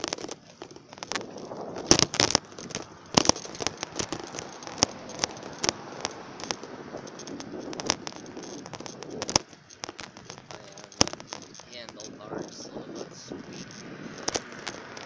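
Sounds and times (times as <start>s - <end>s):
phone rattling on handlebar: 0.0s - 15.0s
steady rushing noise: 0.0s - 15.0s.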